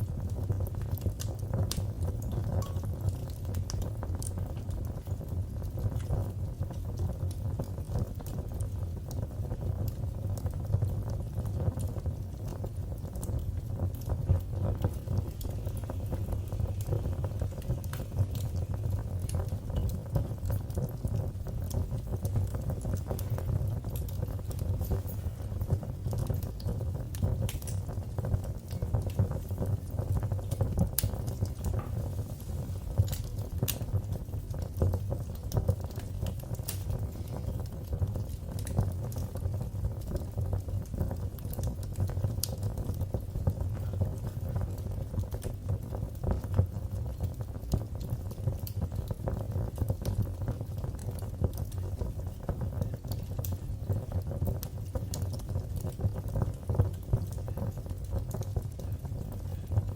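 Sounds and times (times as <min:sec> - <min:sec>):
fire crackling in a fireplace: 0:00.0 - 0:59.9
low rush of flames: 0:00.0 - 0:59.9.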